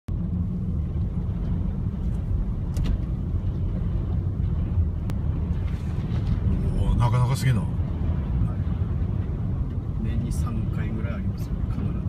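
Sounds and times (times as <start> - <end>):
car driving rumble from inside: 0.1 - 12.0.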